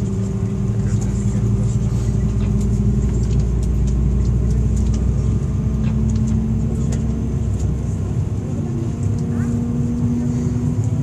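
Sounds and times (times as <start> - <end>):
aircraft cabin low rumble: 0.0 - 11.0.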